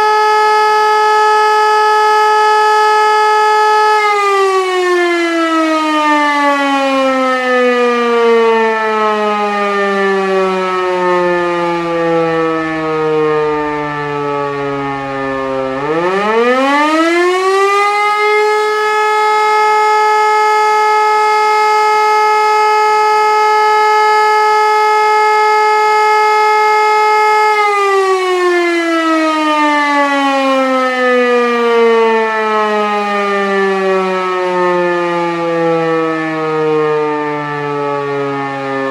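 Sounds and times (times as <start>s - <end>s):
rotary siren: 0.0s - 38.9s.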